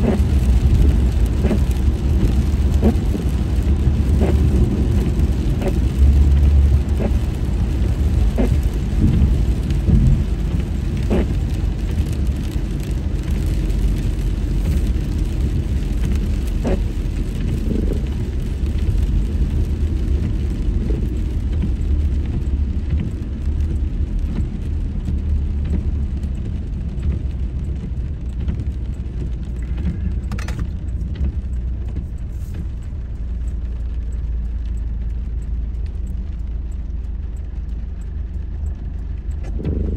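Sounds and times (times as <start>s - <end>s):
engine and tyres on wet road: 0.0s - 39.9s.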